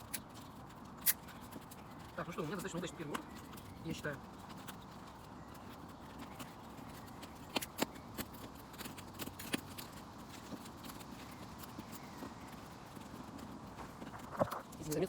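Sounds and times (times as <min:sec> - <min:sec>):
twig fire crackling: 0:00.0 - 0:15.0.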